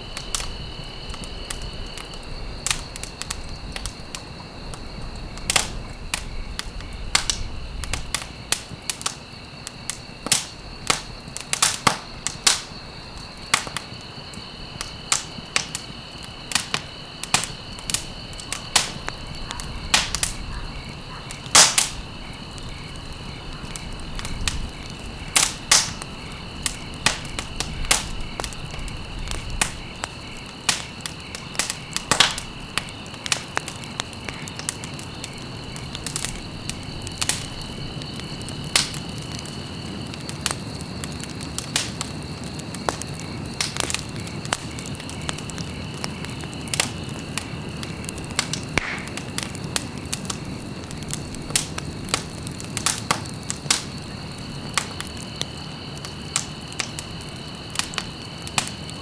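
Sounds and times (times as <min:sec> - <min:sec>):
fireplace wood crackling: 0:00.0 - 0:59.0.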